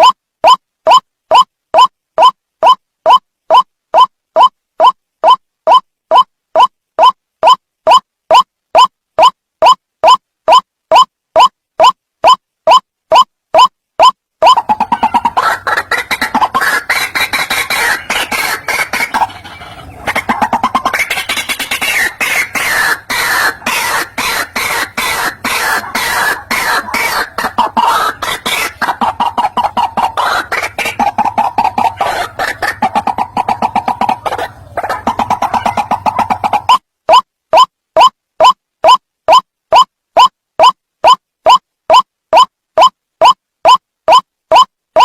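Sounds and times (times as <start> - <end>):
waterhen calling rapid notes: 0.0 - 45.0.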